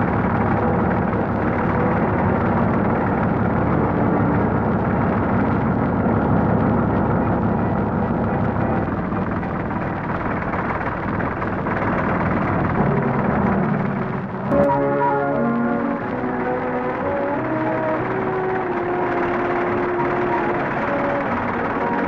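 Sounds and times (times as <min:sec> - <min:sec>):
harvester and truck engine noise: 0:00.0 - 0:22.0.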